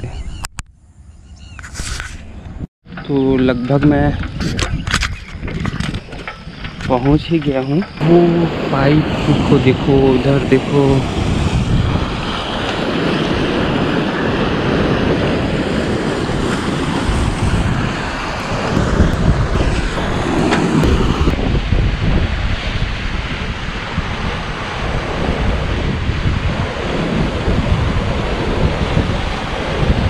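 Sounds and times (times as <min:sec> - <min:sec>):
wind buffeting microphone: 0:01.3 - 0:30.0.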